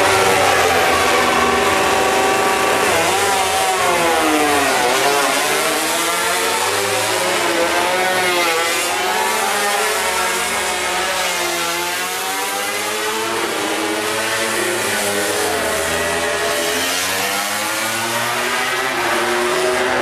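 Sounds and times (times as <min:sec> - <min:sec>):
racing motorcycles revving: 0:00.0 - 0:20.0.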